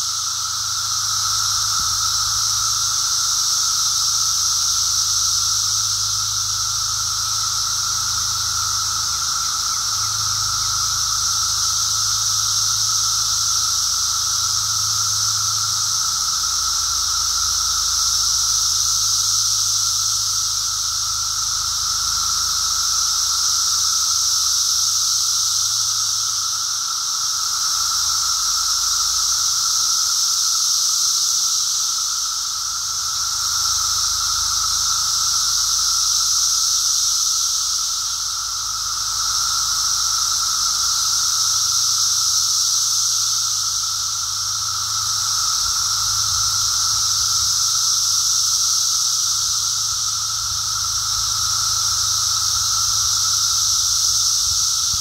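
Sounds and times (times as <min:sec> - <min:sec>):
cicadas chorus: 0:00.0 - 0:55.0.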